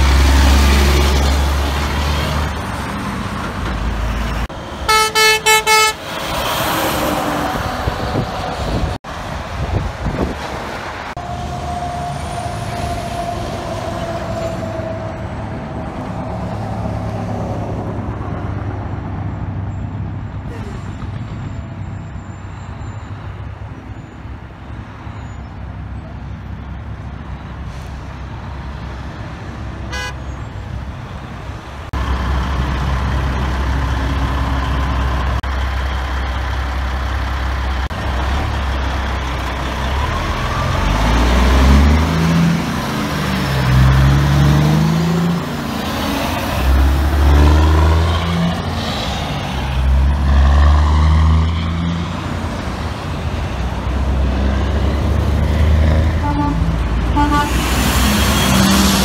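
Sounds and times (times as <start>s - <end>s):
truck diesel engine accelerating: 0.0s - 23.7s, 25.8s - 59.0s
traffic noise: 0.0s - 59.0s.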